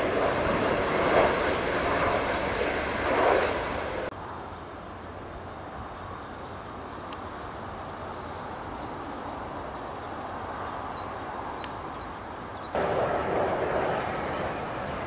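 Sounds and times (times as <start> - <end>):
distant jet engines taxiing: 0.0 - 15.0
jet whine on landing approach: 0.0 - 15.0.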